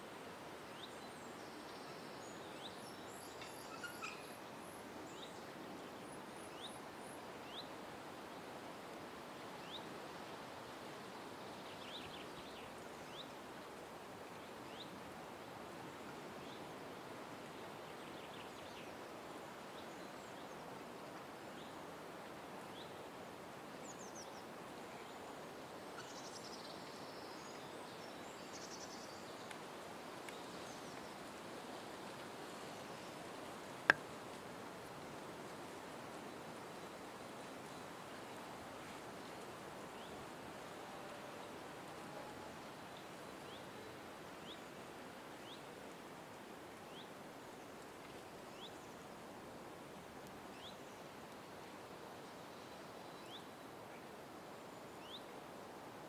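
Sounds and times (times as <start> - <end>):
outdoor ambience hiss: 0.0 - 56.0.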